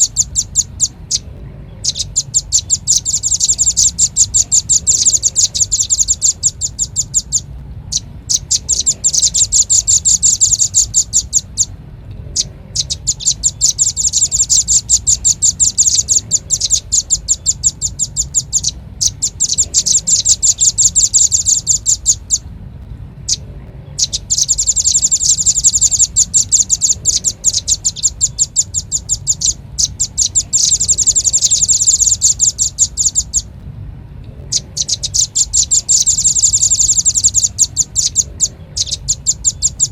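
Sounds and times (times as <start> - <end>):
bird chipping calls: 0.0 - 22.5, 23.1 - 33.6, 34.4 - 39.9
faint low hum: 0.0 - 39.9.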